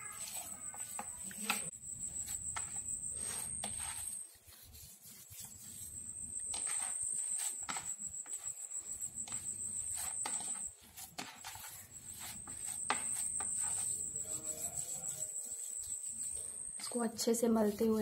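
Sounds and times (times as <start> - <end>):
hands kneading cheese on a plate: 0.0 - 18.0.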